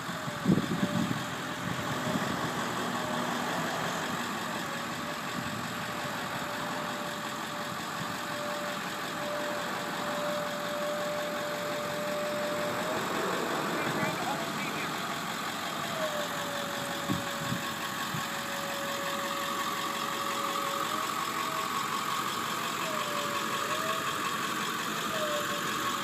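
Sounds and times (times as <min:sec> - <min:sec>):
van engine idling: 0:00.0 - 0:26.0.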